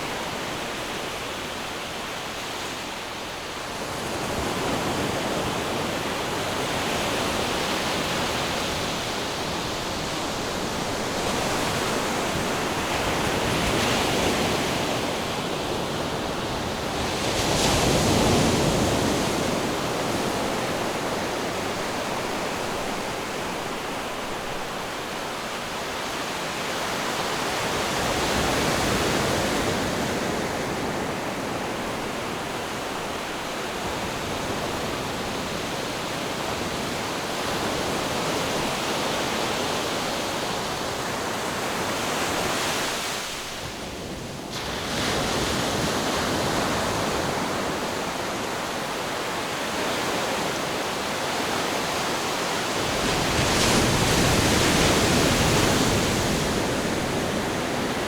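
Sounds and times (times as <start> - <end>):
ocean waves washing onto shore: 0.0 - 58.0.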